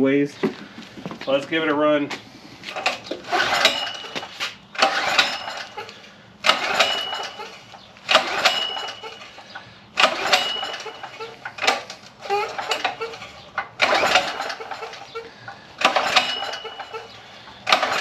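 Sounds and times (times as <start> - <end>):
generator recoil starter pulls: 2.2 - 18.0.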